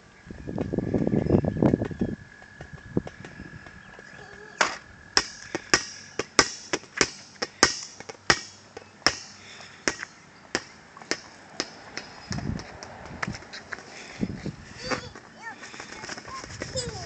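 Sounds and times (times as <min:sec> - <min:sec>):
footsteps on concrete: 0:01.0 - 0:17.0.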